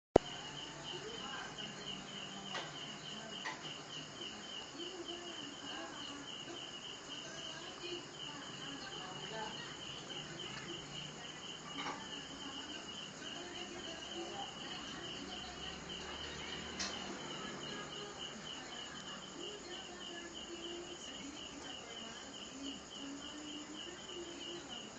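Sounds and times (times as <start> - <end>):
cricket chirping: 0.2 - 24.9.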